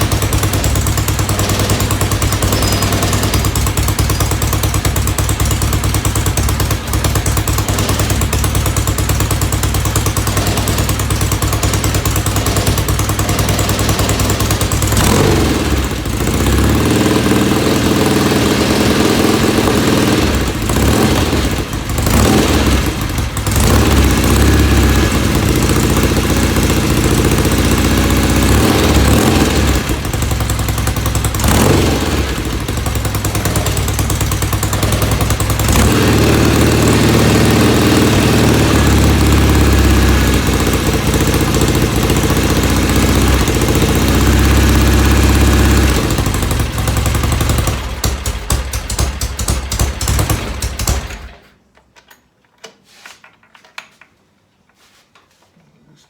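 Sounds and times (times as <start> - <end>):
motorcycle engine running: 0.0 - 51.5.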